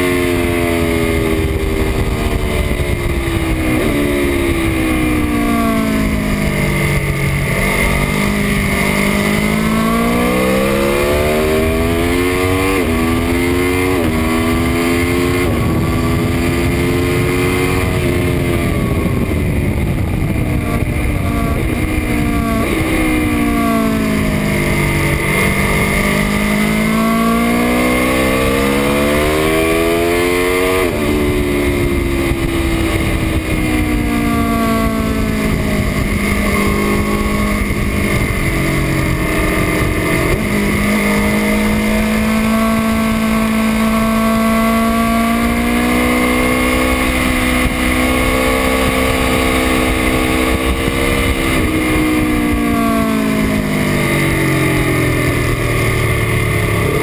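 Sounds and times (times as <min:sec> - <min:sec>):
motorcycle engine at speed: 0:00.0 - 0:57.0
wind rush: 0:00.0 - 0:57.0.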